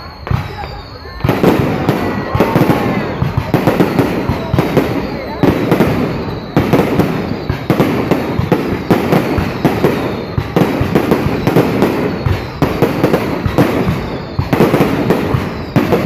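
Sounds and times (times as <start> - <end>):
fireworks bangs and cracks: 0.0 - 16.0.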